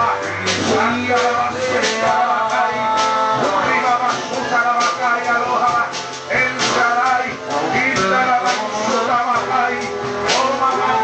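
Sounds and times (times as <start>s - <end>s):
voices singing or praying: 0.0s - 11.0s
worship music with guitar: 0.0s - 11.0s.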